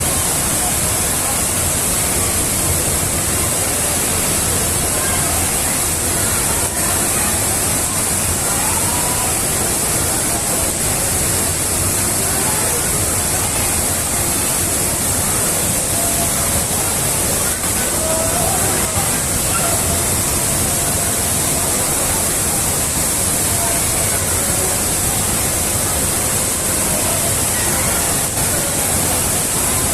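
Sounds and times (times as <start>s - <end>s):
faint voices: 0.0s - 29.9s
waterfall rushing: 0.0s - 29.9s.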